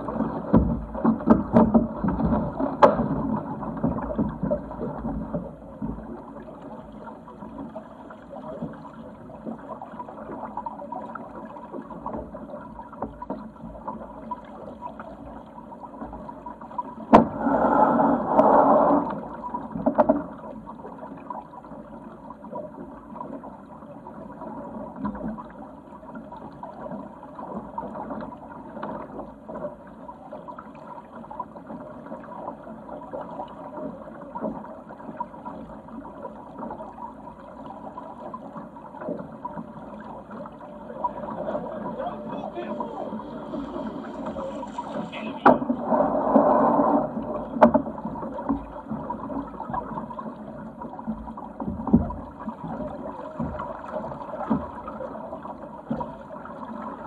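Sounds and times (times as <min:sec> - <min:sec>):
water sloshing along hull: 0:00.0 - 0:57.0.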